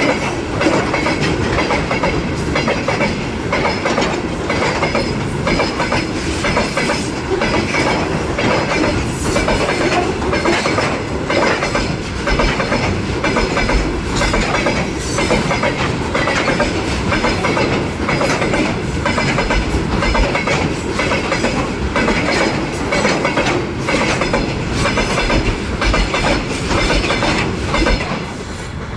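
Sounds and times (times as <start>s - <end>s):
train wheels clattering over rail joints: 0.0s - 28.5s
constant train rumble: 0.0s - 28.9s.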